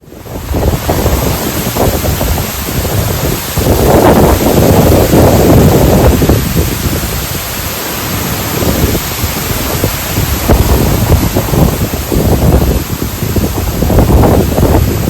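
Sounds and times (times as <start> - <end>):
wind buffeting microphone: 0.0 - 15.0
wind gusting through leaves: 0.0 - 15.0.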